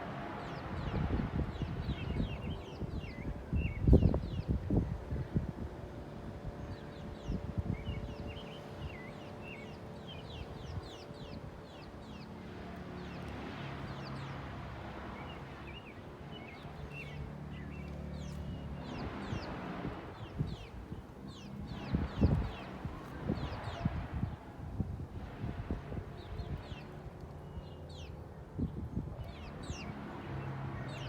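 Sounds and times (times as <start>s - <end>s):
sparrows chirping: 0.0s - 31.0s.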